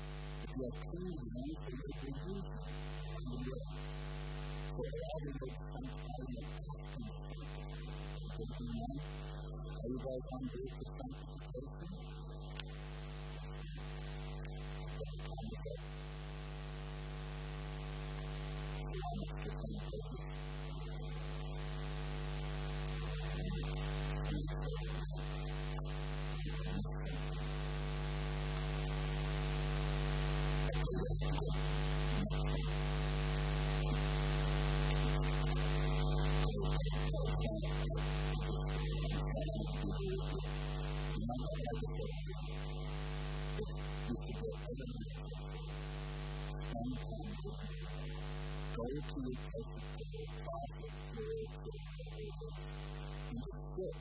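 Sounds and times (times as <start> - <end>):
electrical mains hum and buzz: 0.0 - 54.0.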